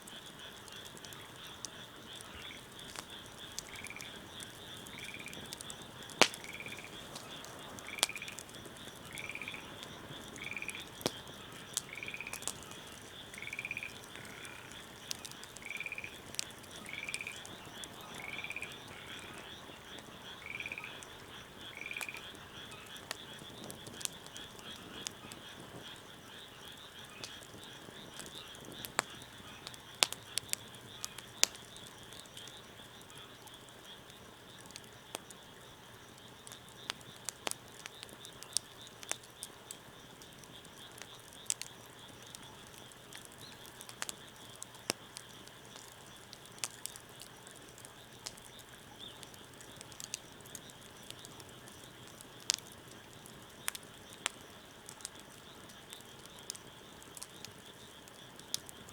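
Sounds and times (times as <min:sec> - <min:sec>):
frogs chorus: 0:00.0 - 0:58.9
wood fire crackling: 0:00.0 - 0:58.9.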